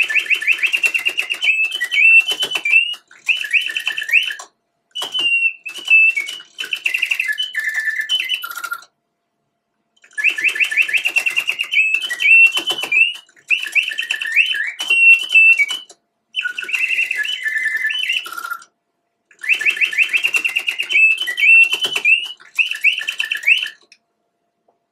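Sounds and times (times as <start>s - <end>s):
mechanical bird warbling: 0.0s - 8.9s, 10.0s - 24.0s.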